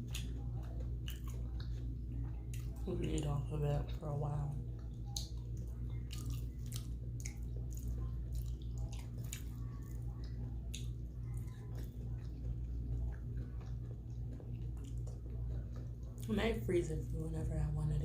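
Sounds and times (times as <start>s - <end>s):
person chewing soft food: 0.0s - 3.2s, 4.5s - 16.3s
steady low hum: 0.0s - 18.0s.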